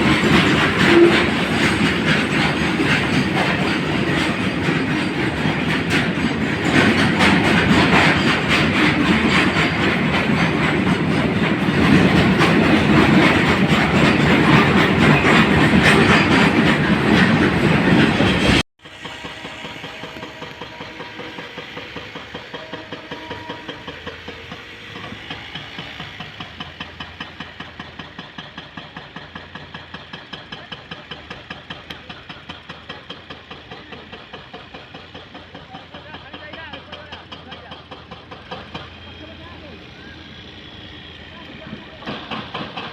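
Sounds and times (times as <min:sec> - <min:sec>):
diesel locomotive engine pulsing: 0:00.0 - 0:42.9
train wheels clattering over rails: 0:00.0 - 0:42.9.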